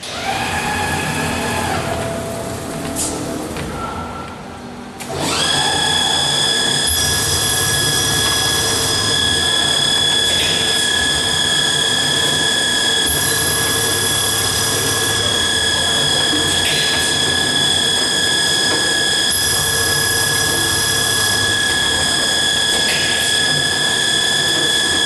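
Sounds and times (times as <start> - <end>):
high-pitched machining whine: 0.0 - 25.0.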